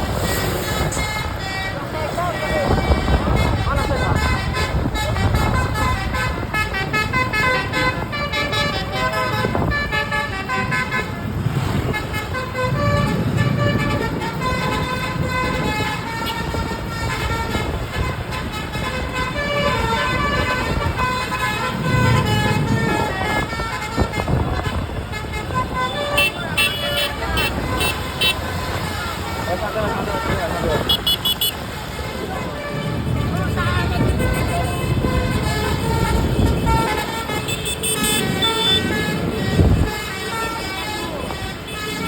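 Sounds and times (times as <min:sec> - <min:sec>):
bus engine rumbling: 0:00.0 - 0:42.0
bus horn playing melody: 0:00.1 - 0:42.0.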